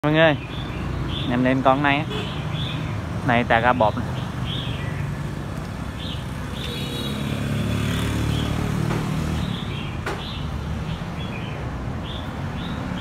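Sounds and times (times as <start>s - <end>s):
rumble of passing vehicles: 0.0s - 13.0s
small birds chirping: 0.0s - 13.0s.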